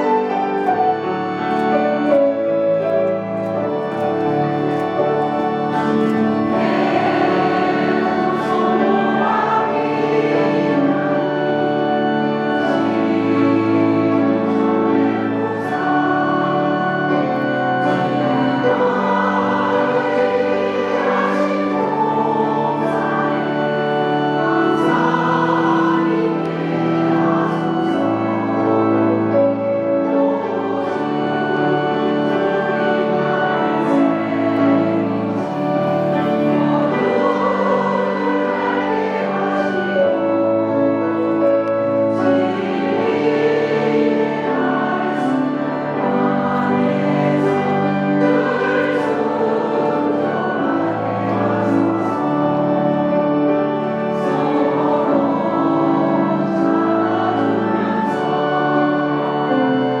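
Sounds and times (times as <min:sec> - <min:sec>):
choir singing a hymn: 0:00.0 - 1:00.0.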